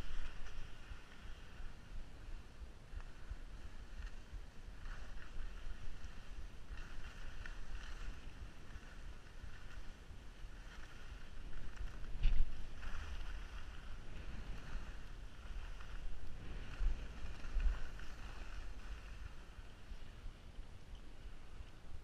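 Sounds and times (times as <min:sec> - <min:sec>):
skis scraping on snow: 0:00.0 - 0:20.4
wind buffeting microphone: 0:00.0 - 0:22.0.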